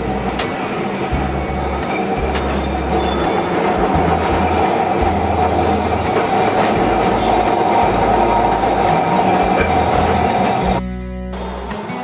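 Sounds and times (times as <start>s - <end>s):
tram wheels rumbling and rattling: 0.0s - 10.8s.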